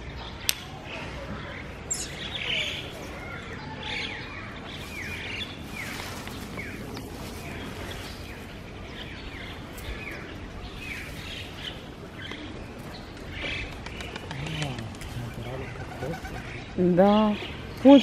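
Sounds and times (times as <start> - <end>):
outdoor background noise: 0.0 - 18.0
small birds chirping: 0.0 - 18.0.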